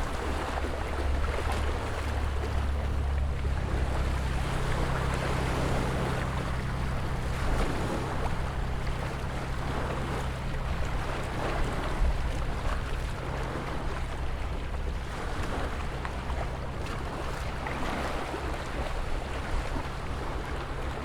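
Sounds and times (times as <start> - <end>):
ocean waves washing: 0.0 - 21.0.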